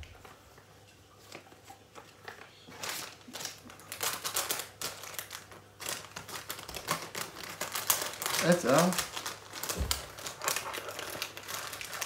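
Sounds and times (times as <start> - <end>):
small items rustling and crinkling: 0.0 - 12.0.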